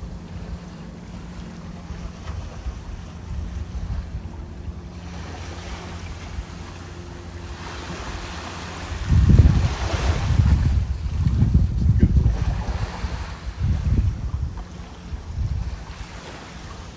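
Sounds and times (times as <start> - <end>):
low hum: 0.0 - 16.9
ocean surf washing ashore: 0.0 - 16.9
wind buffeting microphone: 0.0 - 16.9.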